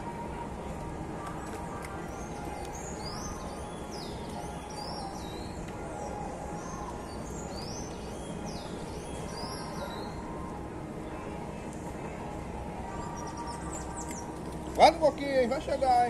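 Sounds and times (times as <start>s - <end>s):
steady background rush: 0.0s - 16.0s
small birds chirping: 1.2s - 11.4s, 12.8s - 16.0s.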